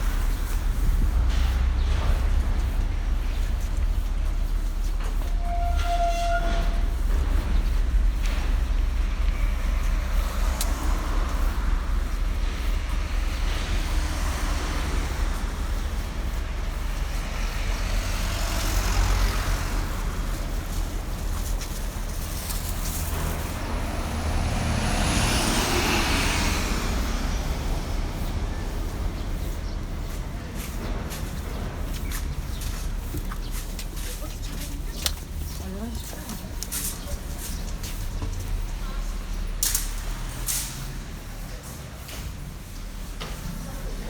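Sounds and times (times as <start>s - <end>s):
low traffic rumble: 0.0s - 44.0s
vehicles passing: 0.0s - 44.0s.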